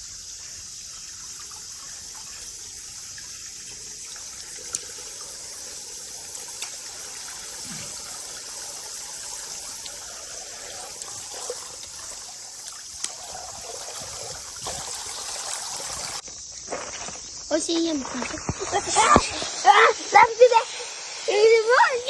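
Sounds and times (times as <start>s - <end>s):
water running with a hiss: 0.0s - 22.0s.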